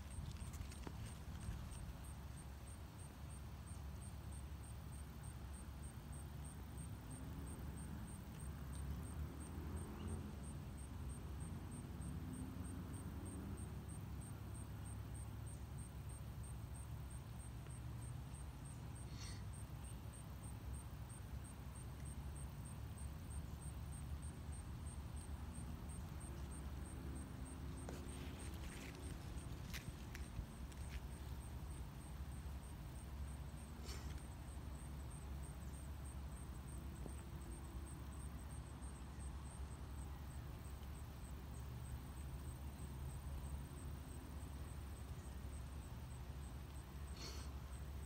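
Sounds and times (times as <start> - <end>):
low rumble of distant traffic: 0.0 - 48.0.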